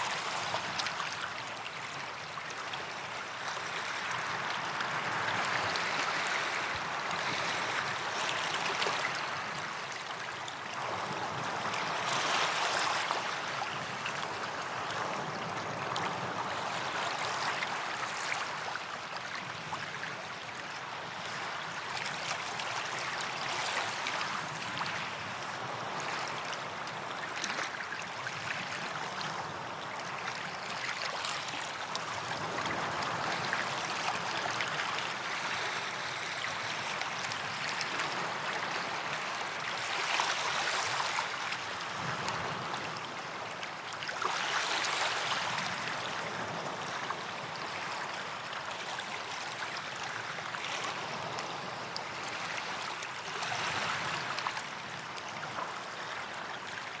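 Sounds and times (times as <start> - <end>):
small waves washing on beach: 0.0 - 57.0.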